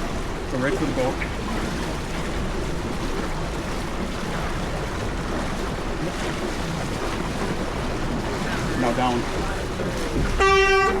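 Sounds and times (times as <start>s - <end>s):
water washing along hull: 0.0s - 11.0s.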